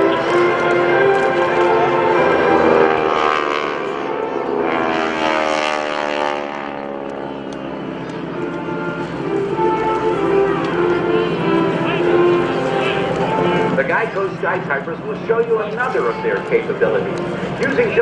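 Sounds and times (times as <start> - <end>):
propeller aircraft flying past: 0.0 - 18.0.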